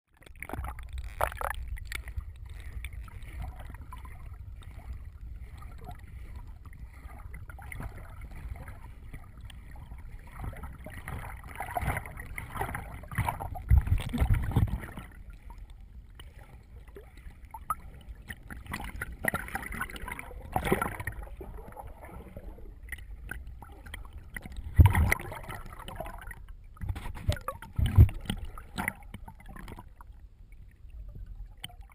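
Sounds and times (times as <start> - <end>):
muffled underwater sloshing: 0.1 - 31.9.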